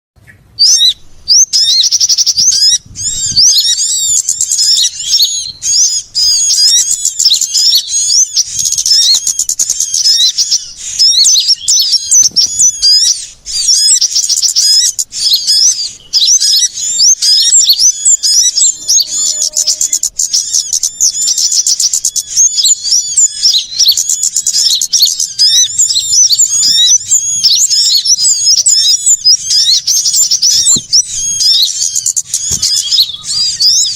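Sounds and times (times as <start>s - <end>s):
songbirds chirping and trilling: 0.2s - 33.9s.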